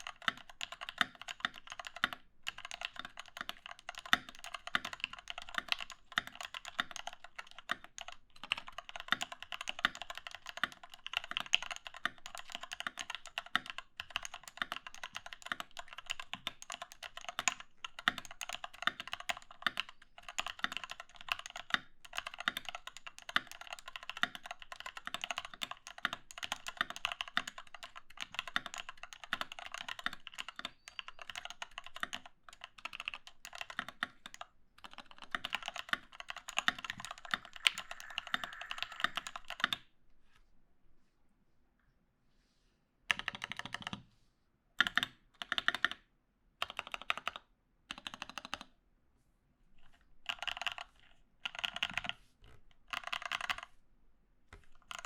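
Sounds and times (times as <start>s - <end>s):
fast typing on mechanical keyboard: 0.0s - 39.8s, 43.1s - 44.0s, 44.8s - 46.0s, 46.6s - 48.7s, 50.2s - 52.2s, 52.8s - 53.7s, 54.6s - 55.0s.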